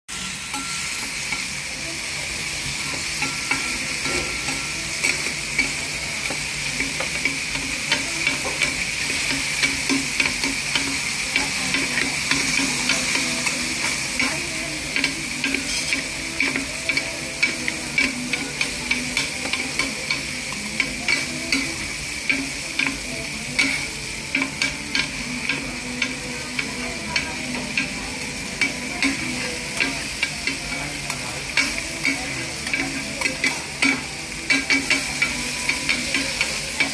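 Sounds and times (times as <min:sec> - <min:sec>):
food sizzling on a griddle: 0:00.1 - 0:36.9.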